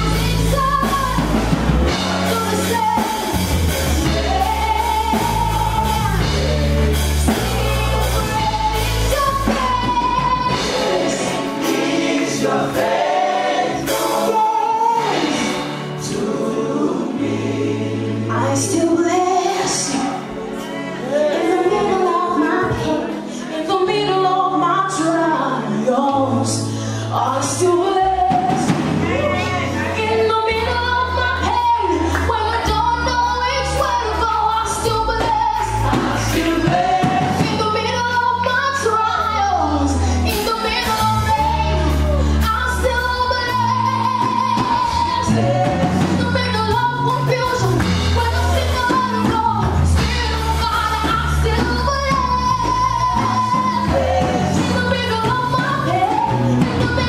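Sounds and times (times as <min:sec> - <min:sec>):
band with bass and drums: 0:00.0 - 0:25.2, 0:27.2 - 0:57.0
group of voices singing: 0:00.0 - 0:57.0.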